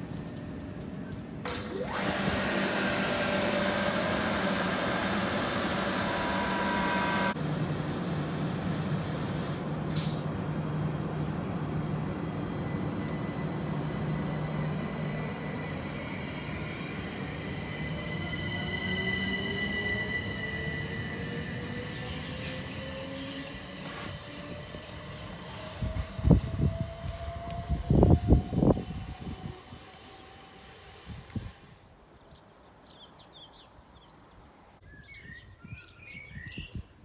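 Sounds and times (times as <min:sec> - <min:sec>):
train wheels rushing on rails: 0:00.0 - 0:31.8
train low hum: 0:00.0 - 0:34.8
train motor whine: 0:01.5 - 0:31.8.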